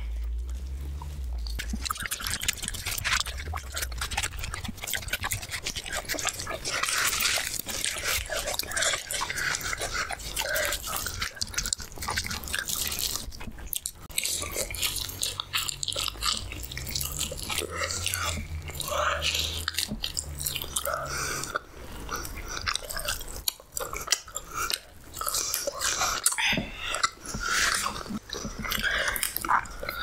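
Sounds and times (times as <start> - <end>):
chewing with mouth clicks: 0.0 - 30.0
low steady hum: 0.0 - 30.0.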